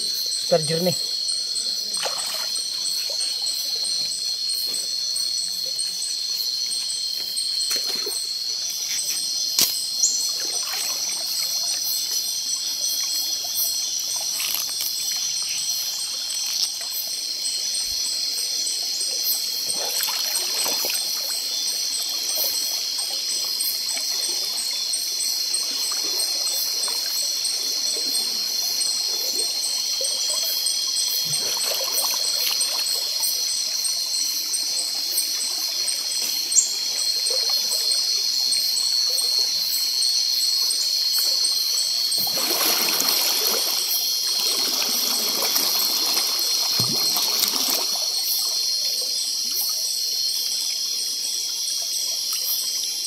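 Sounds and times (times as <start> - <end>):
high-pitched insect drone: 0.0 - 53.0
water trickling and splashing: 1.6 - 53.0.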